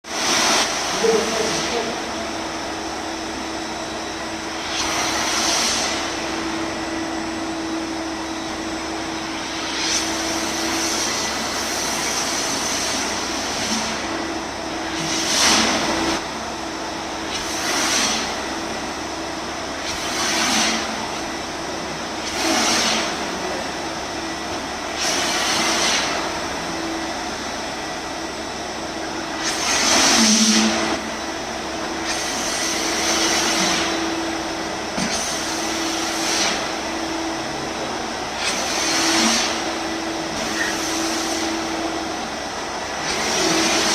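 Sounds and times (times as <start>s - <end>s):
wet-and-dry vacuum cleaner humming: 0.0s - 43.9s.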